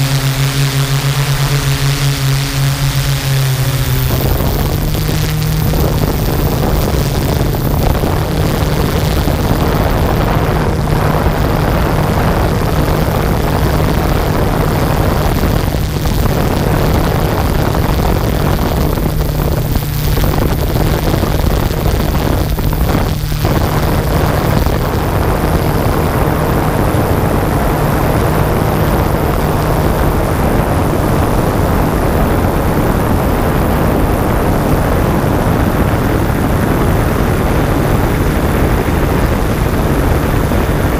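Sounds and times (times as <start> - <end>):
drone propellers droning: 0.0 - 40.9.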